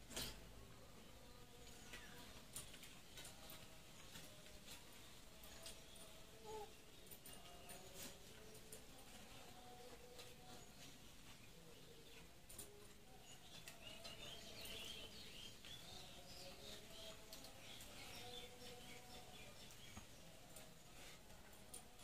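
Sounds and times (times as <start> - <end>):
faint bird chirping: 0.8 - 22.0.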